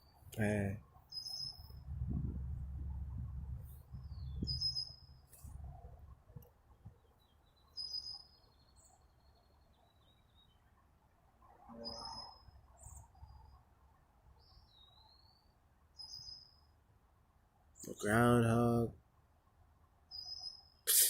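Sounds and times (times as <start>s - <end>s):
faint songbird chirping: 0.0s - 20.9s.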